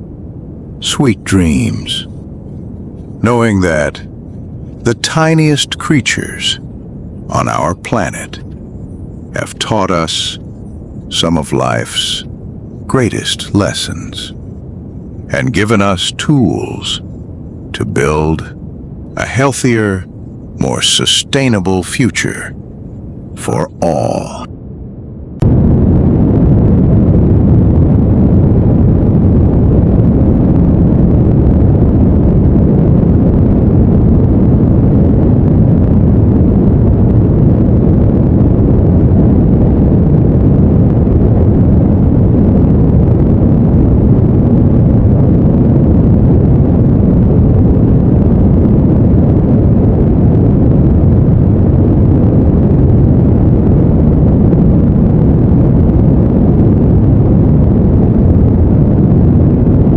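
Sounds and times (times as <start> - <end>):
deep rushing brown noise: 0.0 - 59.9.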